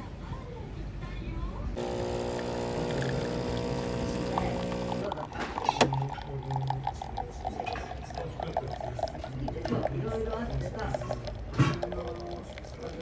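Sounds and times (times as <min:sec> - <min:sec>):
coffee machine pump humming: 0:01.8 - 0:13.0.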